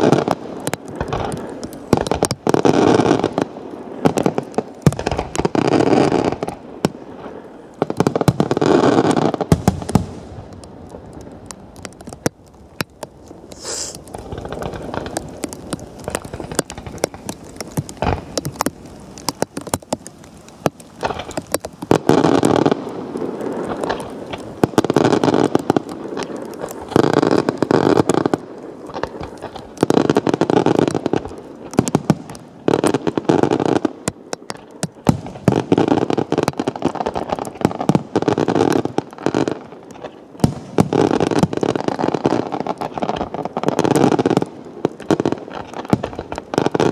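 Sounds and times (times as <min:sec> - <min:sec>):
fireworks popping and crackling: 0:00.0 - 0:46.9.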